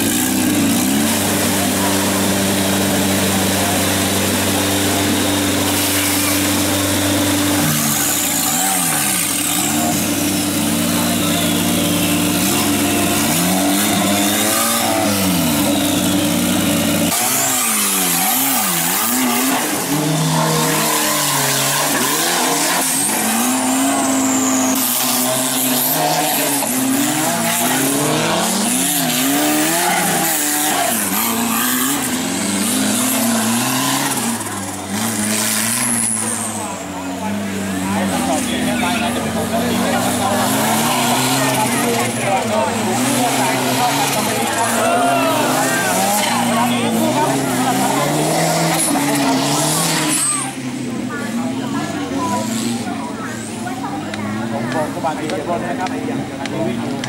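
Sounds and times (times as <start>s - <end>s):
buggy engine revving: 0.0s - 57.0s
vehicle churning through mud and water: 0.0s - 57.0s.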